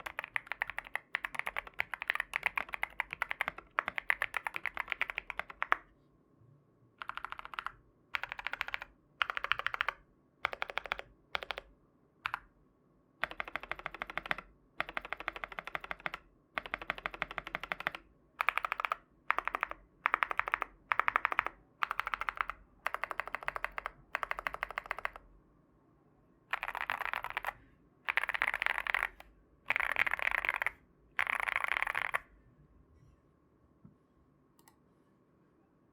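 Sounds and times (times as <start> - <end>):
mechanical keyboard typing: 0.0 - 5.8, 7.0 - 12.5, 13.2 - 25.3, 26.5 - 32.3.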